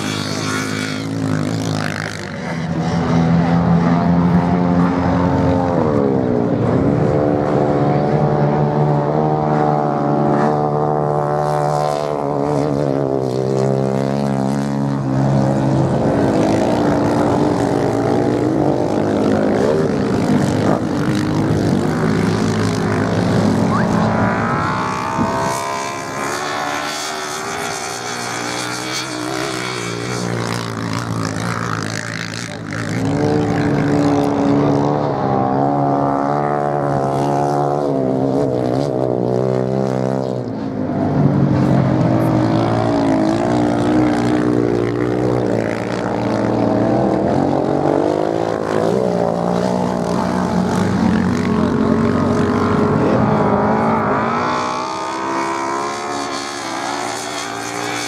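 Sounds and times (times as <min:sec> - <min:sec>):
racing motorcycle engine: 0:00.0 - 0:58.0.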